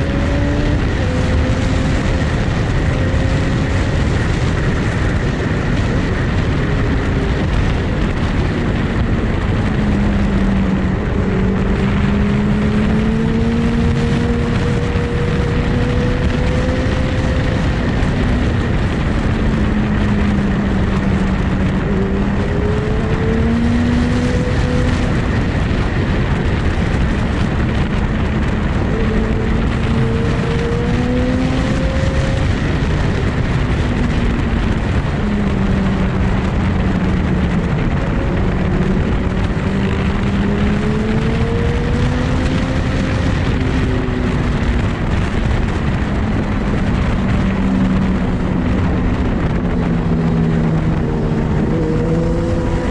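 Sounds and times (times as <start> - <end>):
motorcycle engine: 0.0 - 52.9
wind and road noise: 0.0 - 52.9.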